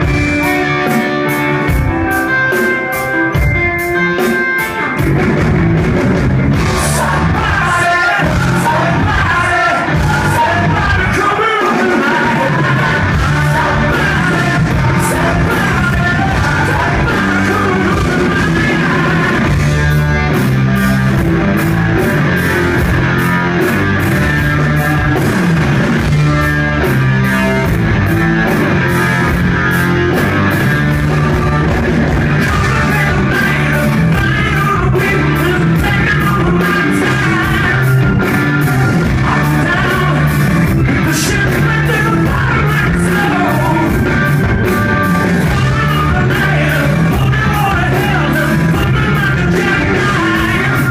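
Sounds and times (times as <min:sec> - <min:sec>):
male lead singer: 0:00.0 - 0:50.9
rock band playing live: 0:00.0 - 0:50.9.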